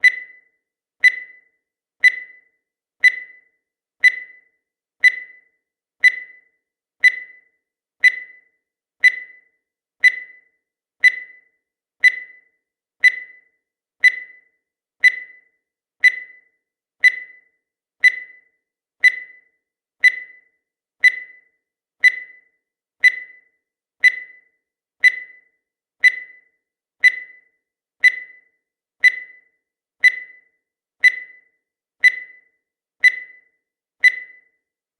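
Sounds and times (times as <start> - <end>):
high-pitched timer ticks: 0.0 - 34.8.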